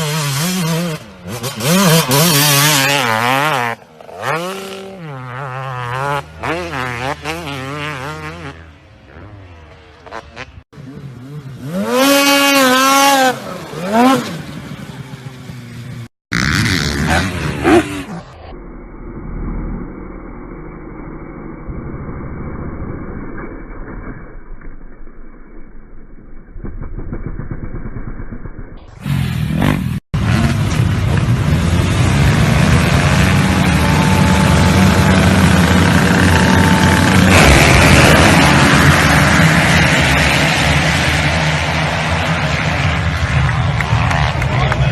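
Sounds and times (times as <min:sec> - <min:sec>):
motocross bike engine revving: 0:00.0 - 0:18.4, 0:26.6 - 0:44.9.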